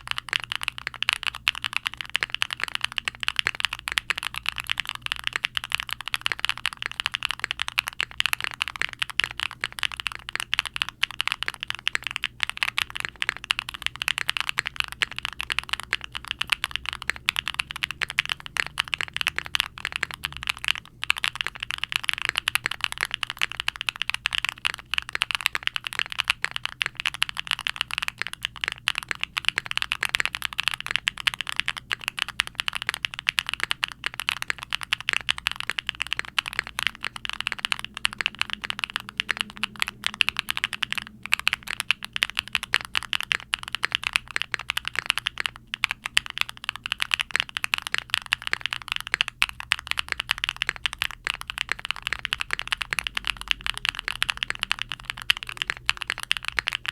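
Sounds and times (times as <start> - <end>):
typing on mechanical keyboard: 0.0 - 56.9.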